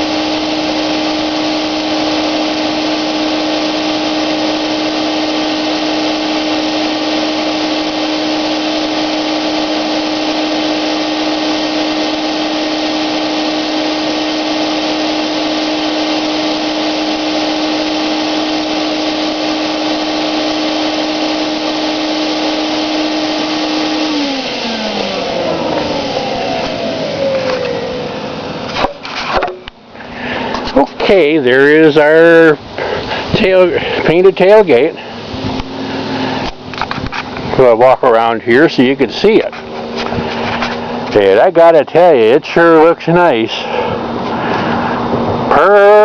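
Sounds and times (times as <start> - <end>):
paint sprayer motor whining: 0.0 - 46.0.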